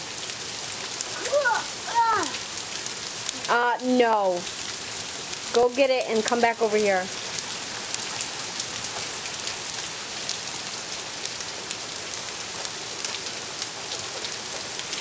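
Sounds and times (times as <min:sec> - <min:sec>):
raindrops clicking close by: 0:00.0 - 0:15.0
steady rain hiss: 0:00.0 - 0:15.0.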